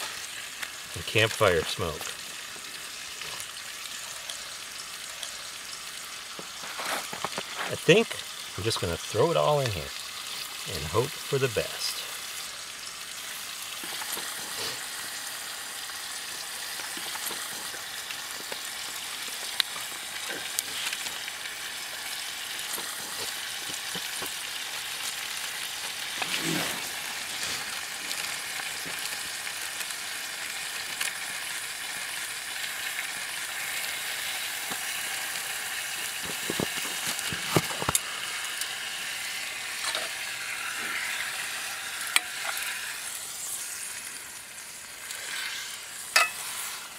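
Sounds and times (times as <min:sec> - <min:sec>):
meat and vegetables sizzling in oil: 0:00.0 - 0:46.9.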